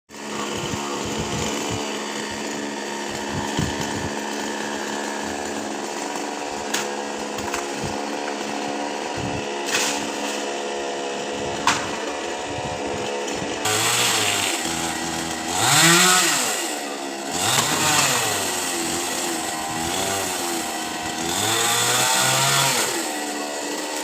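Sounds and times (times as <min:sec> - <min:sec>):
chainsaw cutting palm tree: 0:00.1 - 0:24.0.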